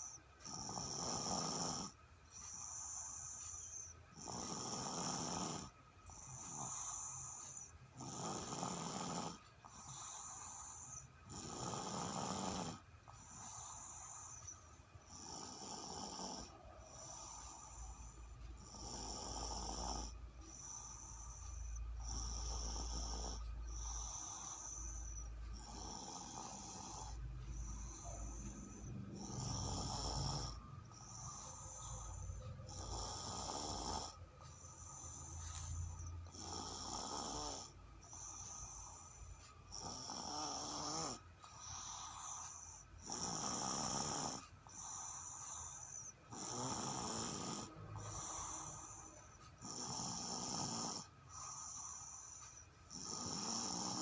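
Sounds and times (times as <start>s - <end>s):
person snoring: 0.0s - 2.0s, 2.6s - 54.0s.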